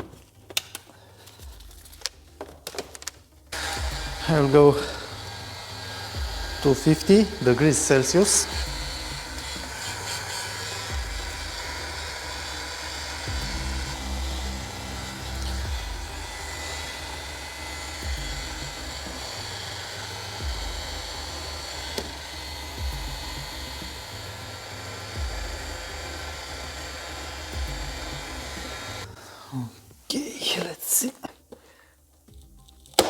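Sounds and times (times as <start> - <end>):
hot air gun blowing: 3.5 - 30.0.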